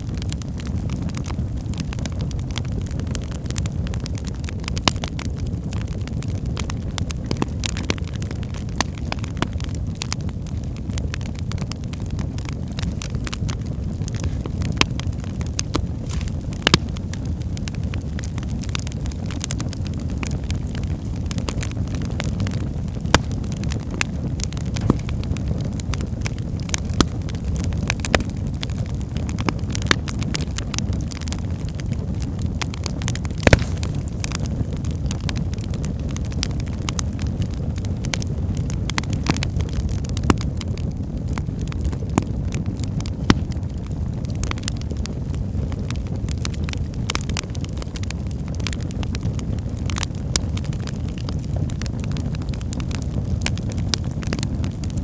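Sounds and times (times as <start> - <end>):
fire crackling in a fireplace: 0.0 - 55.0.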